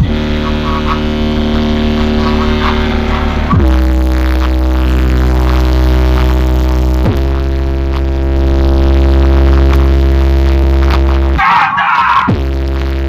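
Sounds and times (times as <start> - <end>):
electronic music with heavy bass: 0.0 - 13.0.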